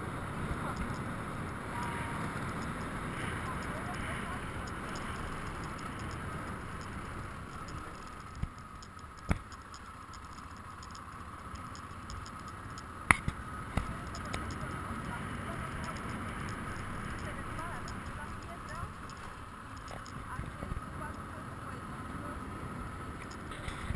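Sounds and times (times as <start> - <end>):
motorcycle engine rumble: 0.0 - 23.9.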